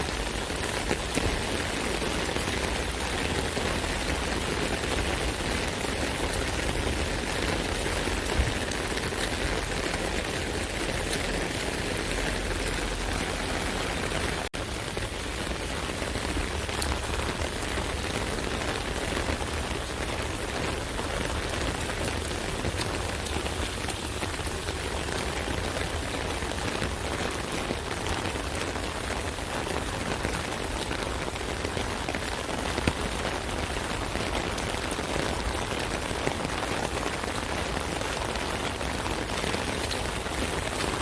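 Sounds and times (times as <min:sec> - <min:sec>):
rain drumming on umbrella: 0:00.0 - 0:41.0.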